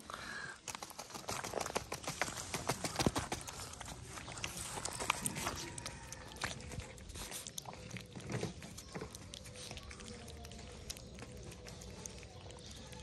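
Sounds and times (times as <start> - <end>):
cat chewing wet food: 0.6 - 13.0.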